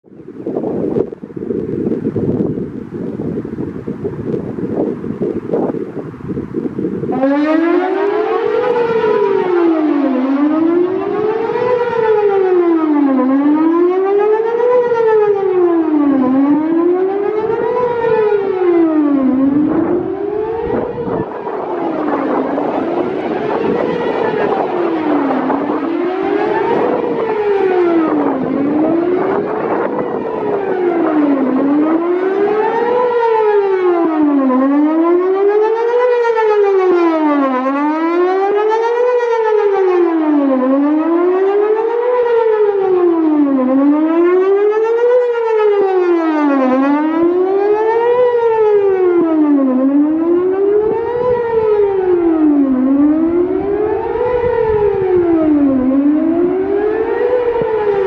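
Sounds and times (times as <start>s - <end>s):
outdoor warning siren rising and falling: 0.0s - 58.0s.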